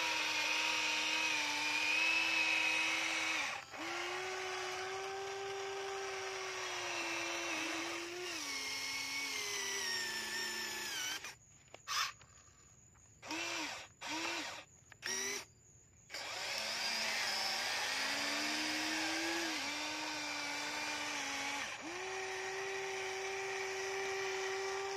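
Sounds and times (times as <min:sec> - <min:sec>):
electric motors whining: 0:00.0 - 0:12.2, 0:13.2 - 0:15.5, 0:16.1 - 0:24.9.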